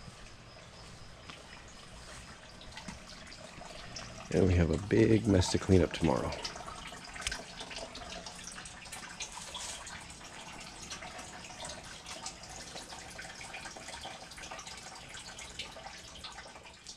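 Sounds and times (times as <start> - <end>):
water drips and splashes: 0.0 - 16.9
water running and trickling: 0.0 - 16.9.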